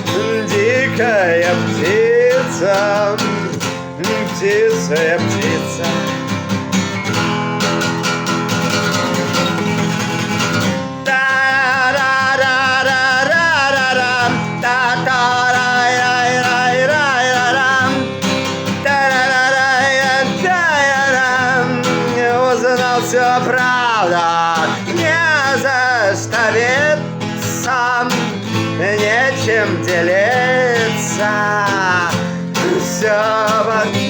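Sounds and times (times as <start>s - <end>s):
guitar chords strummed: 0.0s - 34.0s.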